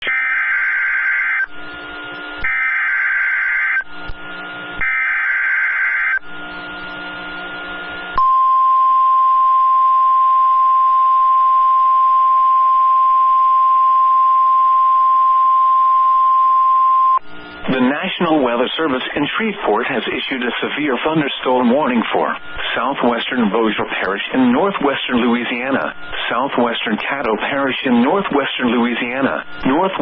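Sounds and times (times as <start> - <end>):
steady warning alarm tone: 0.0 - 19.5, 20.1 - 30.0
harsh digital data tones: 0.0 - 30.0
receiver hiss: 1.5 - 2.5, 6.2 - 30.0.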